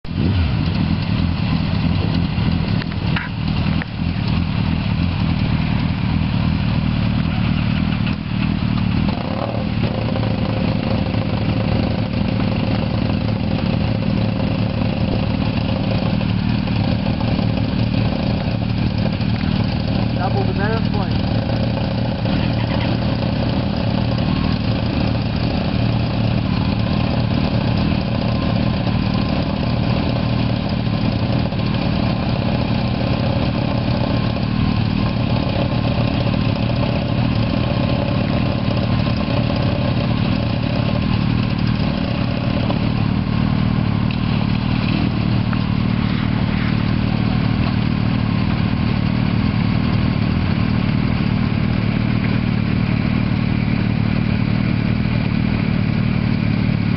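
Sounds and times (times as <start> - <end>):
motorcycle engines idling: 0.1 - 56.9.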